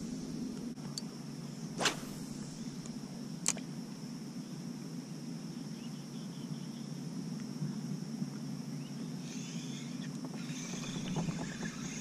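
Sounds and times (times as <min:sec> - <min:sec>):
high insect drone: 0:00.0 - 0:12.0
low even hum: 0:00.0 - 0:12.0.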